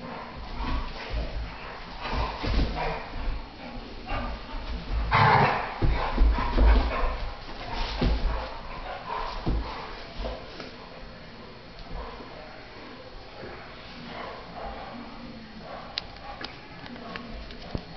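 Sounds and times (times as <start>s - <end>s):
dogs play-fighting: 0.0s - 17.9s.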